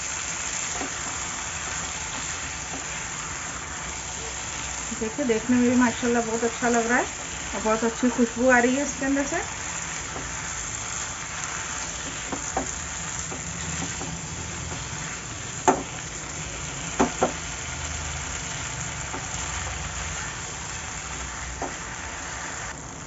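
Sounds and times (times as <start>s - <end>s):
chicken sizzling in a pan: 0.0s - 23.0s.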